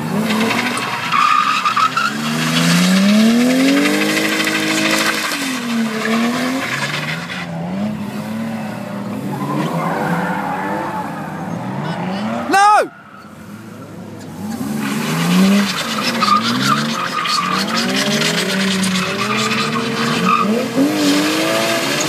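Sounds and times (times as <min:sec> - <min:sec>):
tyres squealing on tarmac: 0:00.0 - 0:07.5, 0:09.2 - 0:22.0
car engine at high revs: 0:00.0 - 0:22.0.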